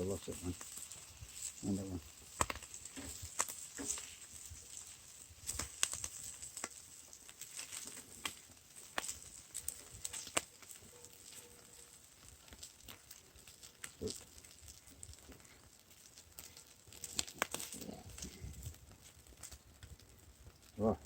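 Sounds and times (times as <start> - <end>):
campfire crackling and popping: 0.0 - 21.0
food frying in a pan: 0.0 - 21.0.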